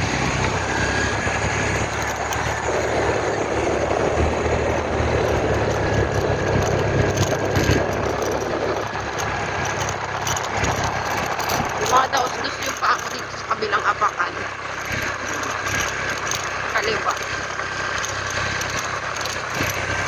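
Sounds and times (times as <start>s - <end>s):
rough rattling noise: 0.0s - 20.0s
vehicle engine humming: 0.0s - 20.0s.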